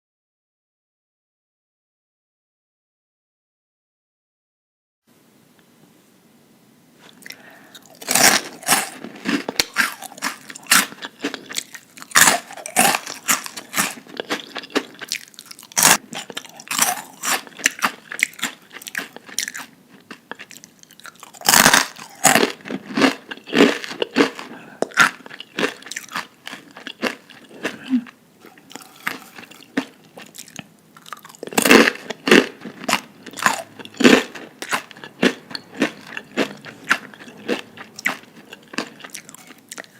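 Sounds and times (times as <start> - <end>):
person chewing crunchy food: 7.0 - 39.9.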